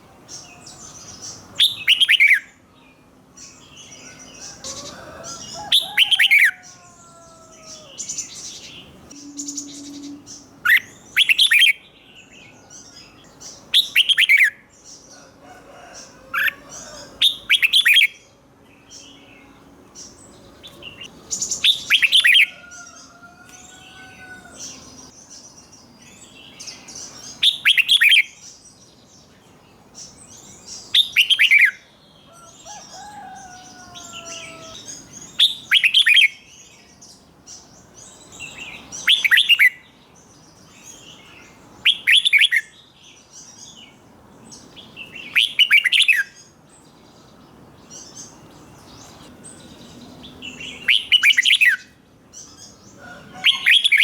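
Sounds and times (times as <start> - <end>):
bird singing sharp phrases: 0.0 - 15.3, 16.0 - 54.0.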